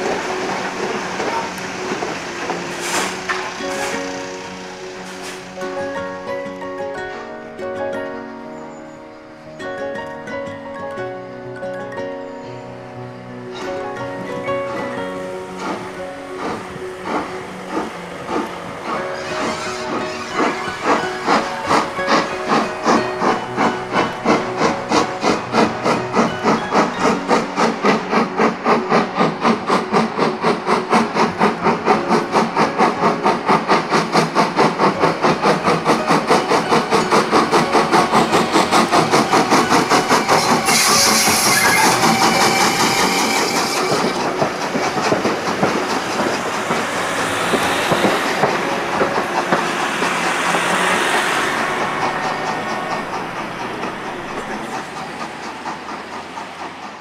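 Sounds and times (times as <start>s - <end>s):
steam hissing: 0.0s - 6.1s, 13.5s - 57.0s
steam locomotive exhaust beats: 0.0s - 6.2s, 12.9s - 57.0s
train running noise: 0.0s - 57.0s.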